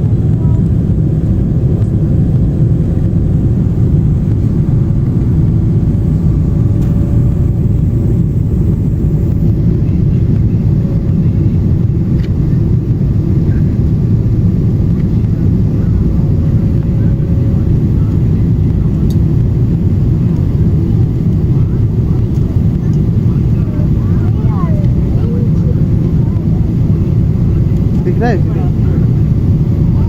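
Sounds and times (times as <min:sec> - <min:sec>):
airliner cabin engine rumble: 0:00.0 - 0:30.0
faint constant hum: 0:00.0 - 0:30.0.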